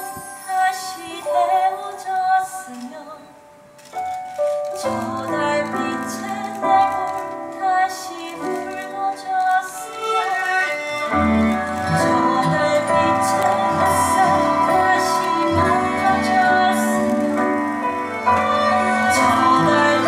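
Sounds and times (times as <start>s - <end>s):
woman singing a ballad: 0.0s - 3.5s, 4.8s - 10.5s, 11.4s - 20.0s
live musical accompaniment: 0.0s - 20.0s.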